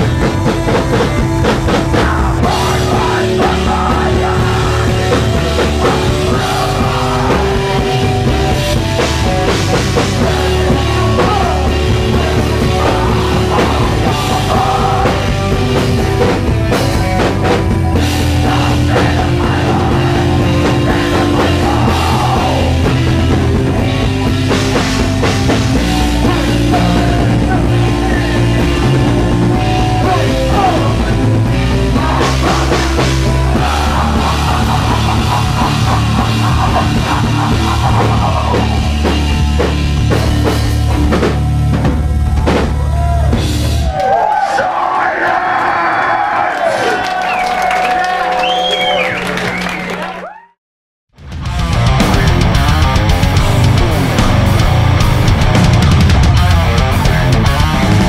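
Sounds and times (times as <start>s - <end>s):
drum kit pounding: 0.0s - 44.4s, 51.2s - 58.0s
heavy rock band playing: 0.0s - 50.1s, 51.2s - 58.0s.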